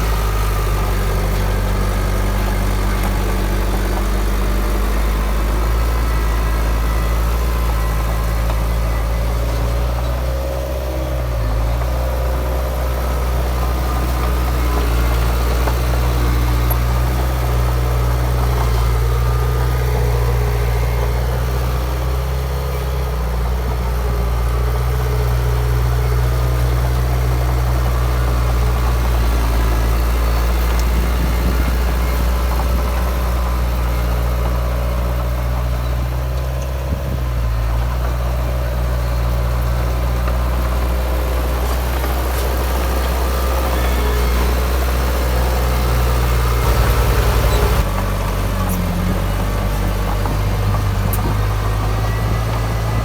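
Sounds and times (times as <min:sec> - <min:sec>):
heavy diesel machinery running: 0:00.0 - 0:53.0.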